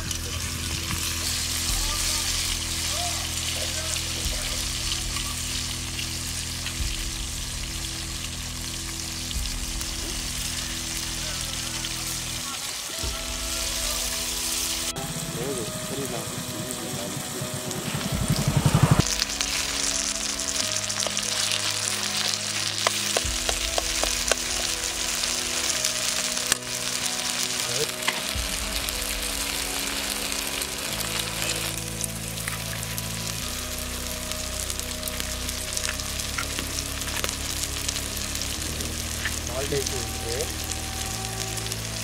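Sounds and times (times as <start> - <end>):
vegetables sizzling in a pan: 0.0 - 15.5, 19.0 - 42.0.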